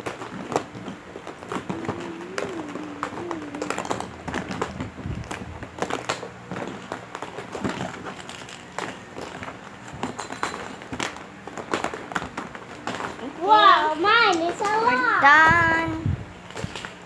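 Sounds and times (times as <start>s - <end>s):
plastic eggs clattering: 0.0s - 15.5s.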